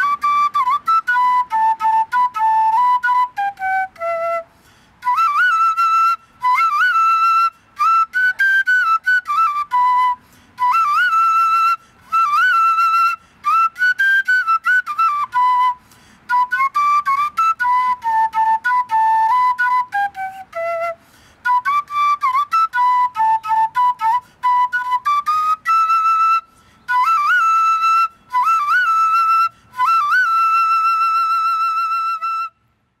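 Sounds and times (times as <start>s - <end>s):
end-blown flute melody: 0.0s - 32.6s.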